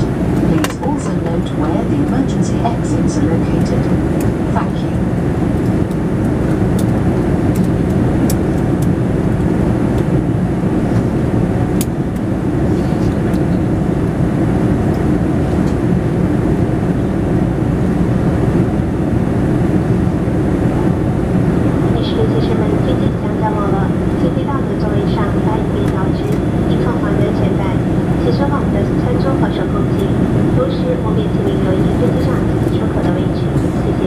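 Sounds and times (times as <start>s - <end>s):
airliner cabin noise: 0.0s - 34.0s.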